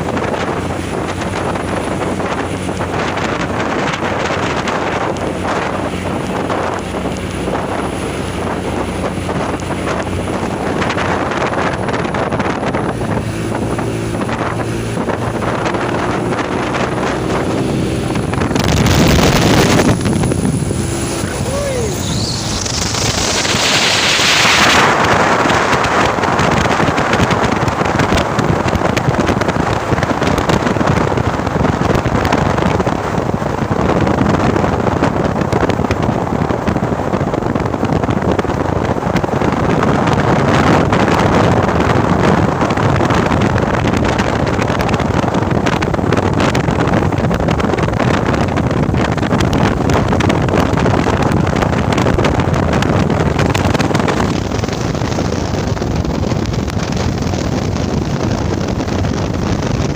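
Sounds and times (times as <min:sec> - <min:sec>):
truck engine and road noise: 0:00.0 - 0:59.9
wind buffeting microphone: 0:00.0 - 0:59.9.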